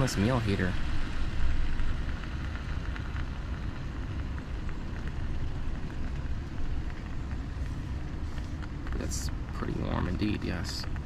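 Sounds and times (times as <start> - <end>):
continuous hiss: 0.0 - 11.0.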